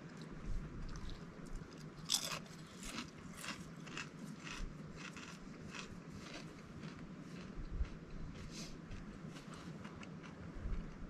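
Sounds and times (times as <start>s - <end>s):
crunchy chewing of food: 0.0s - 11.0s.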